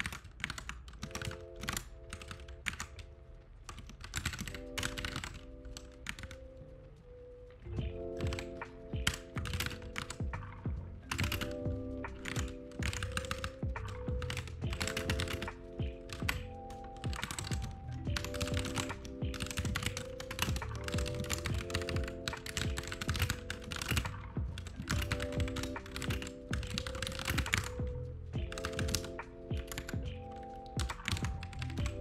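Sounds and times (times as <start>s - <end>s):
fast typing on keyboard: 0.0s - 7.0s, 7.8s - 32.0s
lo-fi background music: 0.0s - 32.0s.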